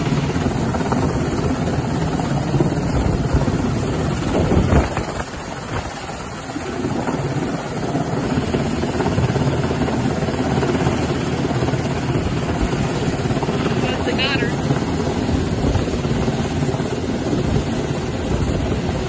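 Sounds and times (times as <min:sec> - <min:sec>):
helicopter rotor and engine: 0:00.0 - 0:19.0
wind buffeting microphone: 0:00.0 - 0:19.0.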